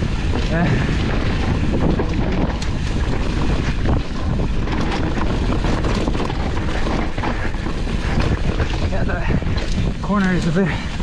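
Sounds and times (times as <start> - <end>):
bike rattling over dirt trail: 0.0 - 11.0
wind rushing over microphone: 0.0 - 11.0.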